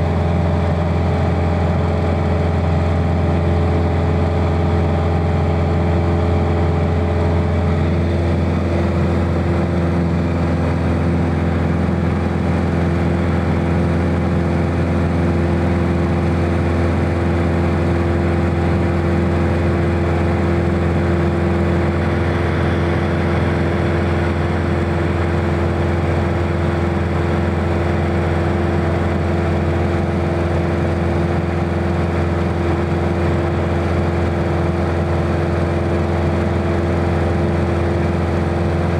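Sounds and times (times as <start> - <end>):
light aircraft engine and propeller drone: 0.0 - 38.9.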